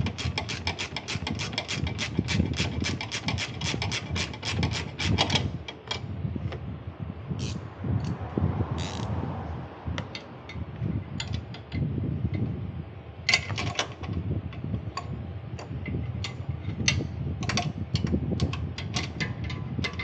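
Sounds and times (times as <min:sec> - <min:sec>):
steady low rumble: 0:01.2 - 0:20.0.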